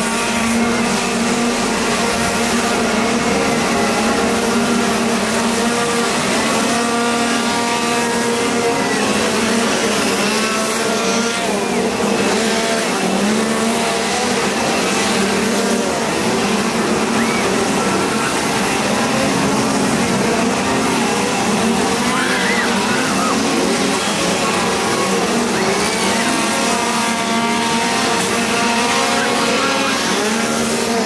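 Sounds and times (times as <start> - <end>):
chainsaws revving: 0.0 - 31.0.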